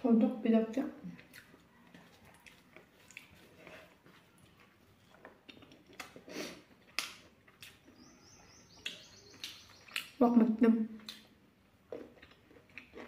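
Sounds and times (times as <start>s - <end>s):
person chewing food: 1.0s - 8.1s, 8.7s - 10.2s, 11.0s - 13.0s.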